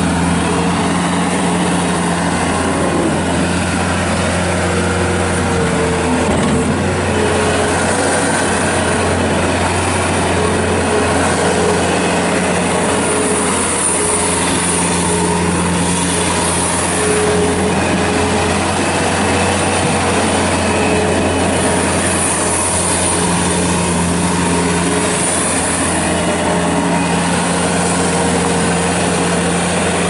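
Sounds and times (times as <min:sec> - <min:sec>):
diesel engine running: 0:00.0 - 0:30.0
high whine: 0:00.0 - 0:30.0.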